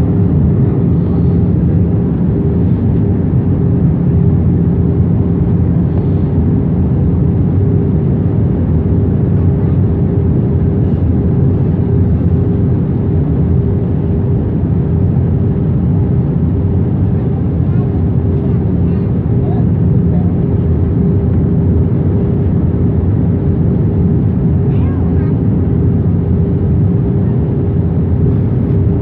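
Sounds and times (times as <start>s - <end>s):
airplane cabin engine rumble: 0.0s - 29.0s
constant hum: 0.0s - 29.0s.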